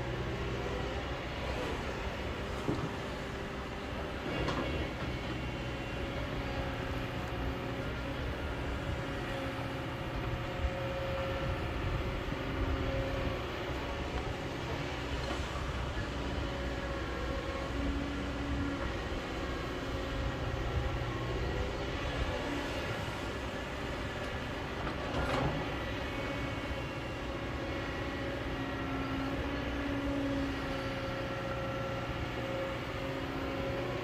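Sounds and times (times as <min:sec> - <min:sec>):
excavator engine drone: 0:00.0 - 0:34.0.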